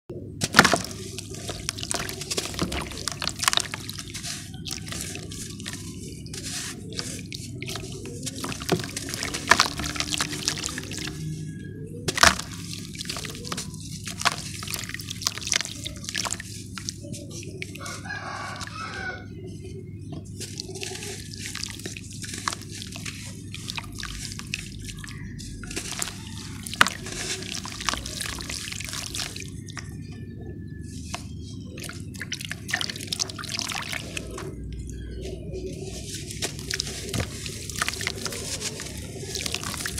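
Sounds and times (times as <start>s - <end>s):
water dripping and splashing: 0.4s - 18.8s, 20.1s - 39.9s
wet ash crunching and crackling: 0.4s - 39.9s.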